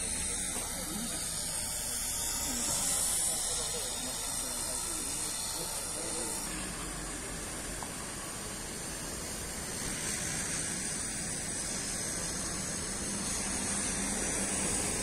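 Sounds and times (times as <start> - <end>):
even outdoor hiss: 0.0 - 15.0.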